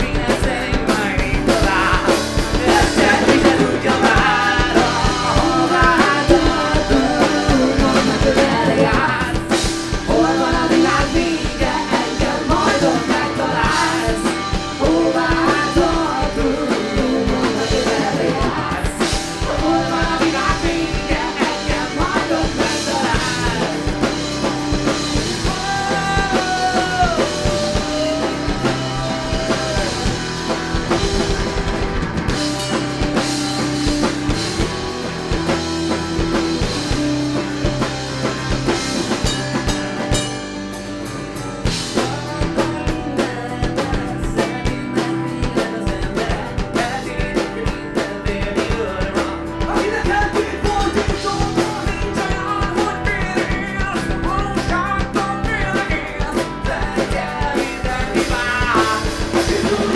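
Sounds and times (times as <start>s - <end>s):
lead vocal singing: 0.0s - 40.4s, 41.6s - 59.9s
rock band playing live: 0.0s - 59.9s.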